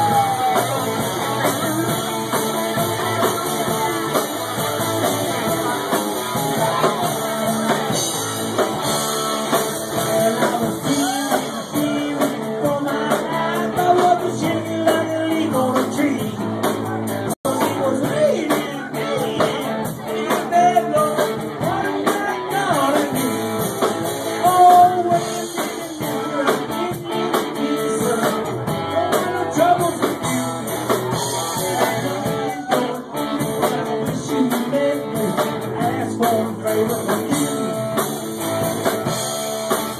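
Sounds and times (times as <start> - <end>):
person singing: 0.0 - 38.3
drums: 0.0 - 39.9
rock band guitar: 0.0 - 39.9.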